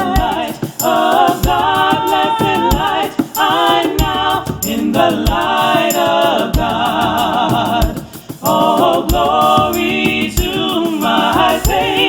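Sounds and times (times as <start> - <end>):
backing track: 0.0 - 12.0
group singing a hymn: 0.0 - 12.0
light percussion ticking: 0.0 - 12.0
low drum beat: 0.0 - 12.0.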